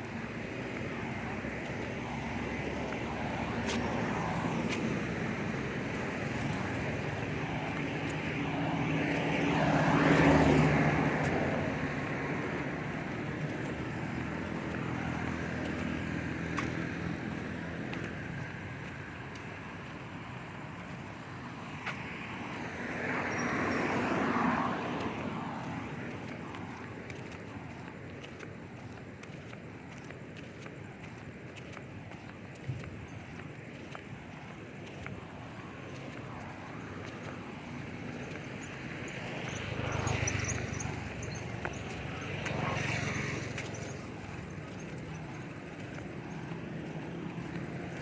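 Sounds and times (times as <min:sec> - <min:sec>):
motor vehicles passing: 0:00.0 - 0:48.0
traffic background noise: 0:00.0 - 0:48.0.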